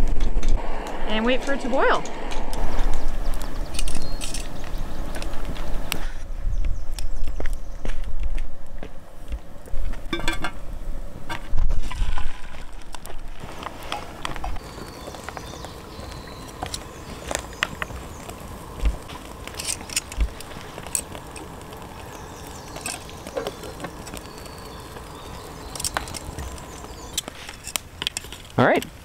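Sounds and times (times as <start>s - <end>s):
campfire crackling and popping: 0.0s - 29.0s
faint outdoor background: 0.0s - 29.0s.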